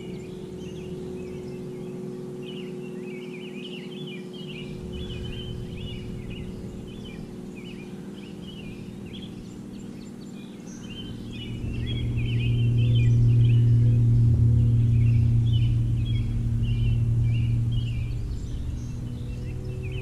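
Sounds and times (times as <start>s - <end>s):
birds chirping: 0.0s - 20.0s
low engine hum: 0.0s - 20.0s.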